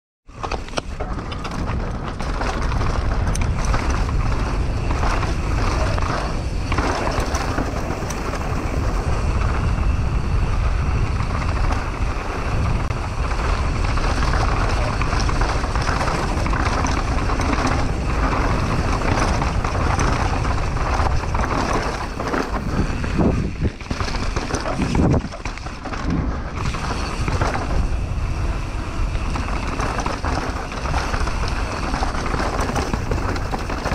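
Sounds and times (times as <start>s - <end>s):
bike knocks and rattles: 0.3s - 33.9s
wind on microphone: 0.4s - 33.9s
tyres rolling on rock: 0.5s - 9.4s, 13.1s - 28.0s, 29.2s - 33.9s.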